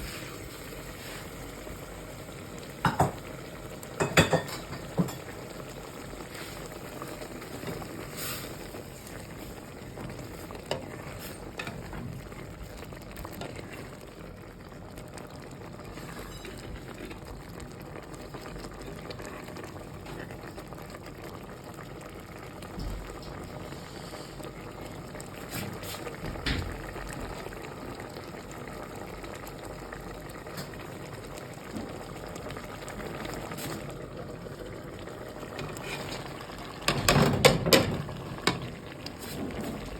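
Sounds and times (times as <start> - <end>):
food bubbling and sizzling: 0.0 - 39.9.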